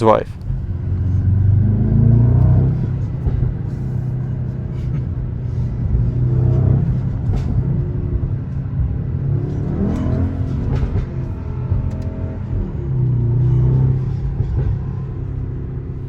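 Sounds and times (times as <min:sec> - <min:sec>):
car engine running with low hum: 0:00.0 - 0:16.0.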